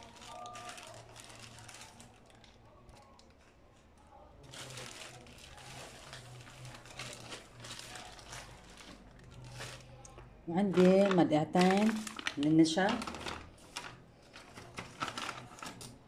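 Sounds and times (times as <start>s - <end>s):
hands crinkling and rustling: 0.0s - 16.0s.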